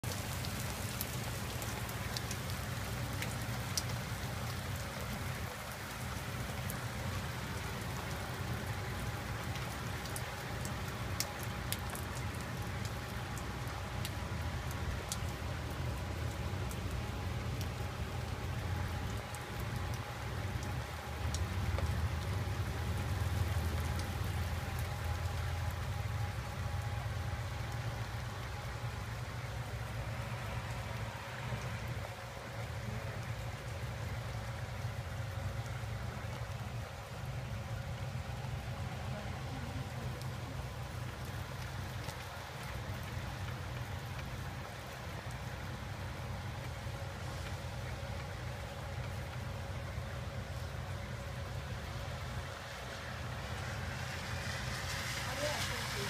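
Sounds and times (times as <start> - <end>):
steady rain on wet street: 0.0 - 56.0.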